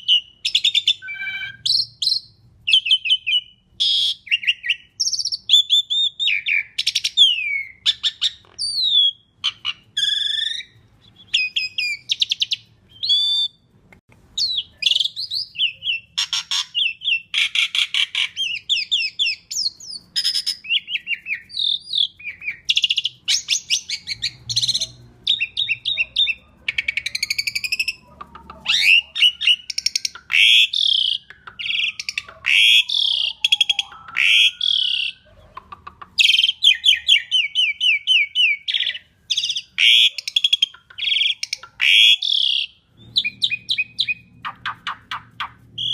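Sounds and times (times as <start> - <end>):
starling singing: 0.0 - 13.7, 14.4 - 45.9.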